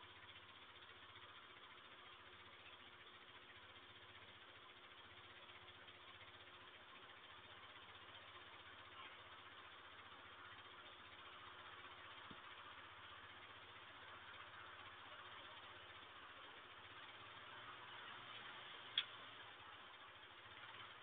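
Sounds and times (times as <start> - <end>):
faint low hum: 0.0 - 21.0
steady hiss: 0.0 - 21.0.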